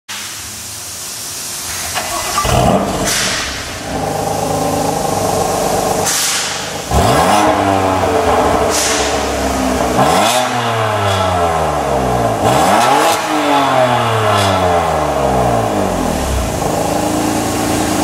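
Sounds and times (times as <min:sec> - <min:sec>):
car engine starting and idling: 0:00.6 - 0:18.0
car engine revving: 0:01.7 - 0:18.0.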